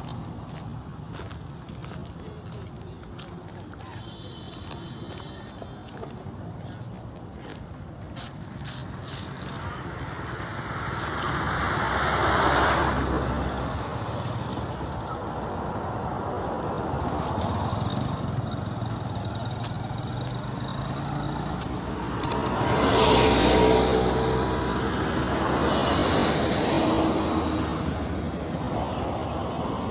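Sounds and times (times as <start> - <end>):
road traffic rumble: 0.0 - 29.9
vehicles passing close by: 0.0 - 29.9.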